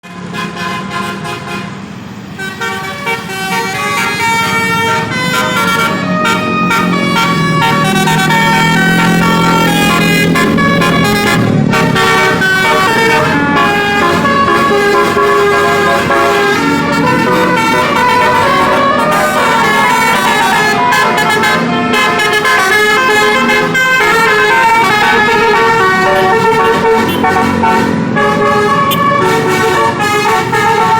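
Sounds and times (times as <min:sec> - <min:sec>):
multi-tone bus horn melody: 0:00.0 - 0:30.9.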